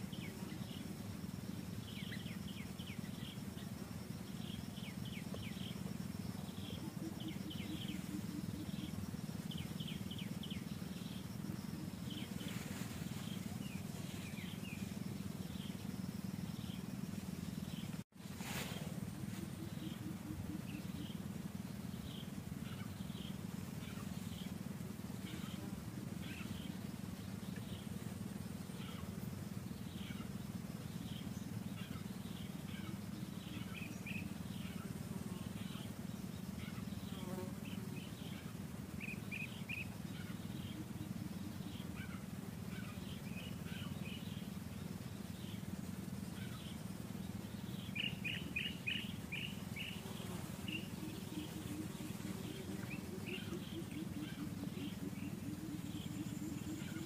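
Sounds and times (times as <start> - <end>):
birds chirping: 0.0 - 57.0
steady low hum: 0.0 - 57.0.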